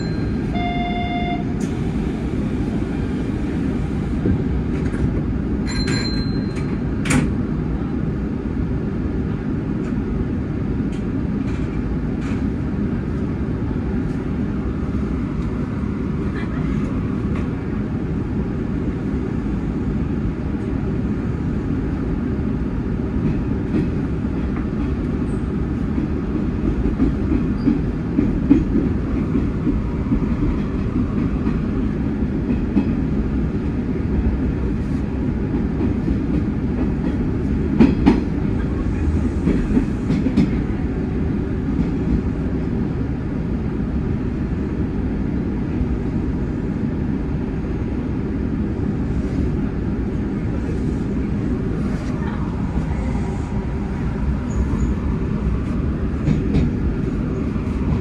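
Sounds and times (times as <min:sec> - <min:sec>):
train wheels rumbling: 0:01.4 - 0:58.0.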